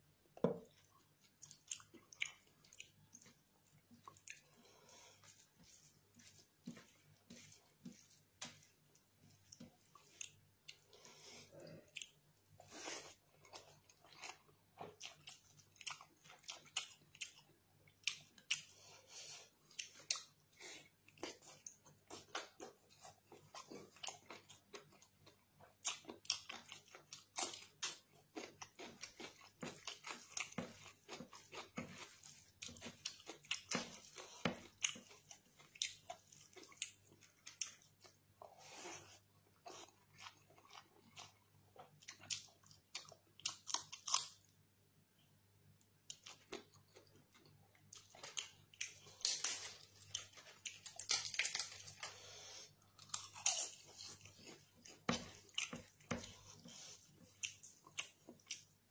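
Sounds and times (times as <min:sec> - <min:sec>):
person chewing and crunching: 0:00.3 - 0:44.5, 0:45.8 - 0:58.9.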